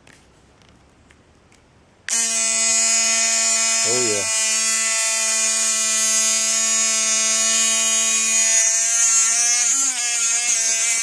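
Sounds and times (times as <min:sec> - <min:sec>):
electric toothbrush buzzing: 0:02.1 - 0:11.0.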